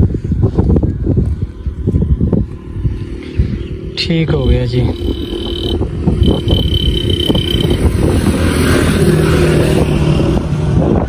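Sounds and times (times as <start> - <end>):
vehicle engine running: 0.6 - 9.9.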